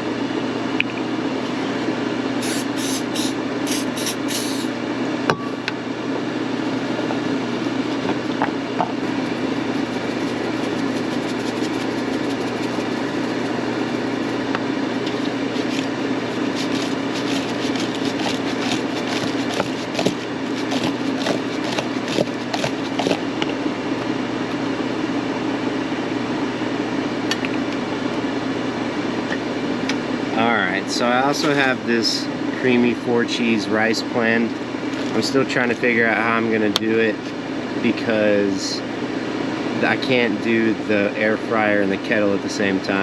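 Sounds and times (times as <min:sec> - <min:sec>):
air fryer fan whirring: 0:00.0 - 0:43.0.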